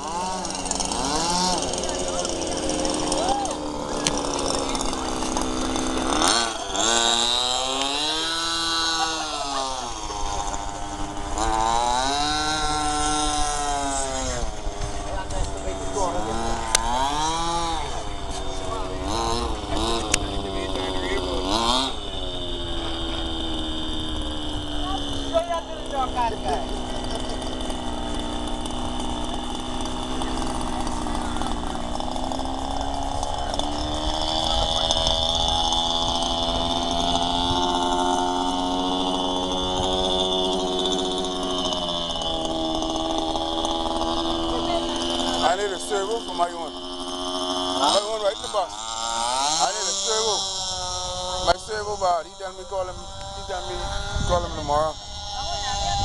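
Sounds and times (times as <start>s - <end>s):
rc boat engine at high revs: 0.0s - 56.0s.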